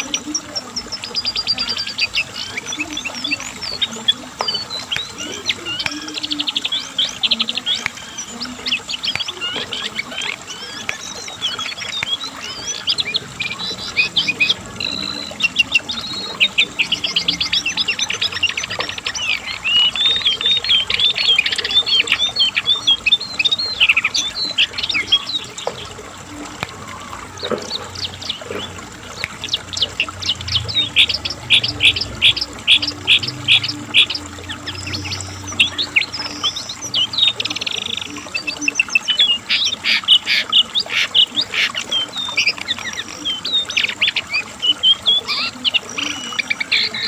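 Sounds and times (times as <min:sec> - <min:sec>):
bird singing rapid trills: 0:00.0 - 0:47.0.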